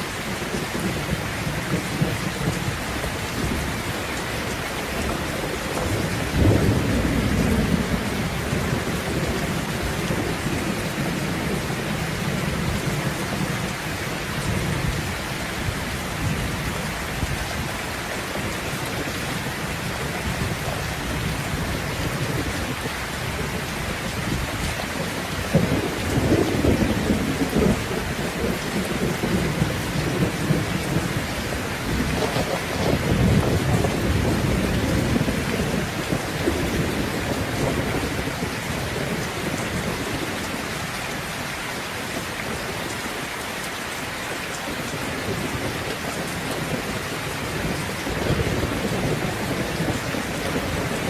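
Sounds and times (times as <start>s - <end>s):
thunder rumbling: 0.0s - 43.0s, 44.7s - 51.0s
rain falling: 0.0s - 51.0s.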